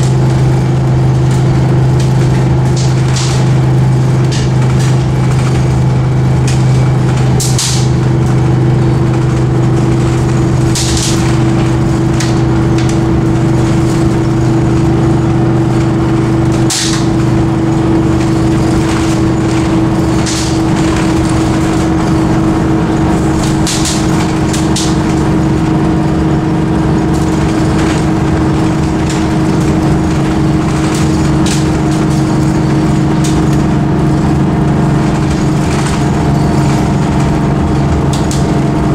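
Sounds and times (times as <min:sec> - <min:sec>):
diesel coach engine droning: 0:00.0 - 0:38.9
road noise: 0:00.0 - 0:38.9.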